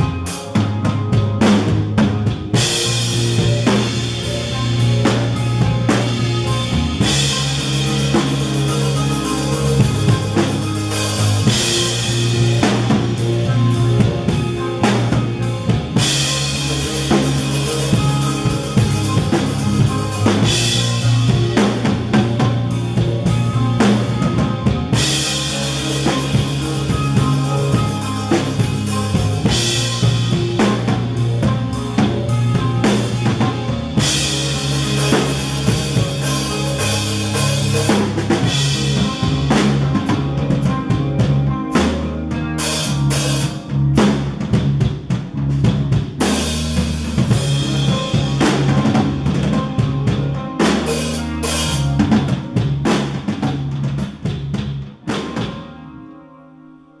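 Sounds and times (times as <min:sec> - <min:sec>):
drum kit: 0:00.0 - 0:56.0
distorted electric guitars: 0:00.0 - 0:57.0.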